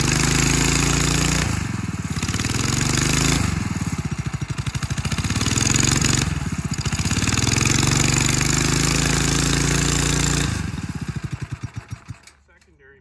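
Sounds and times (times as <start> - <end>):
small engine running at high revs: 0.0 - 12.3.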